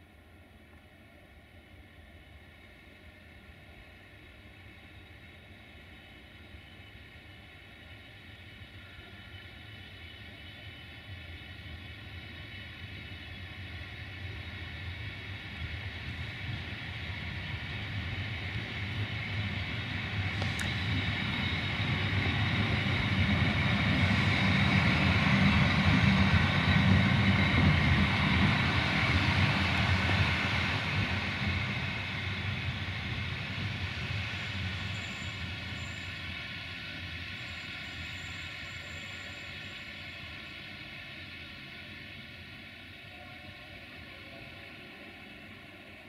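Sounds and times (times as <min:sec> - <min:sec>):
train passing with rumble: 0:00.0 - 0:46.0
train whine: 0:00.0 - 0:46.0.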